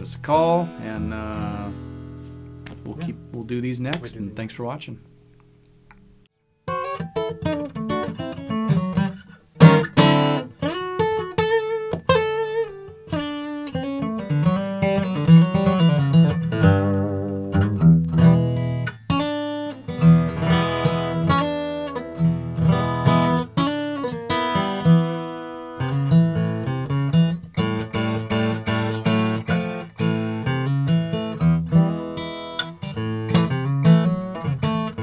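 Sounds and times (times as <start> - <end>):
fingerstyle acoustic guitar: 0.0 - 4.3, 5.1 - 35.0
strummed guitar chords: 0.0 - 5.5, 6.7 - 35.0.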